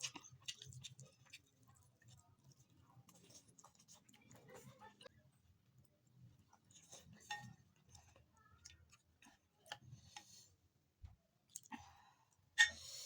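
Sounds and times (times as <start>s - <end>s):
soft chewing and mouth noises: 0.0s - 13.0s.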